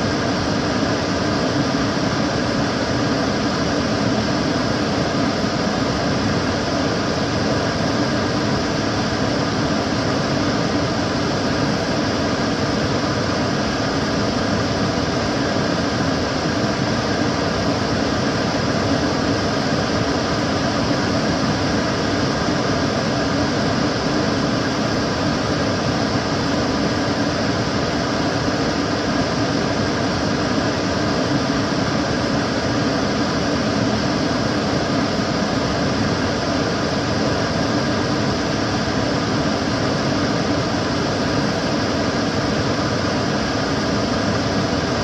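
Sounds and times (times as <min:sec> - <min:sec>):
extractor fan running: 0:00.0 - 0:45.0.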